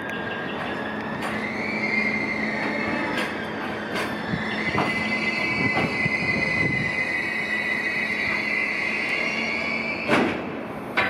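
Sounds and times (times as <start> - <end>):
steel wheels squealing: 0.0 - 10.8
wheels clacking over rail joints: 0.0 - 11.0.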